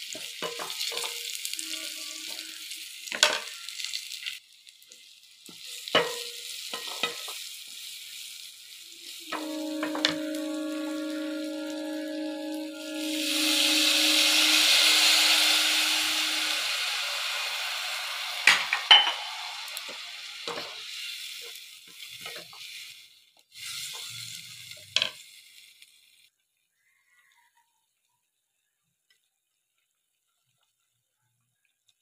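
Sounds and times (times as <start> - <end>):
water hissing in hot oil: 0.0 - 26.4.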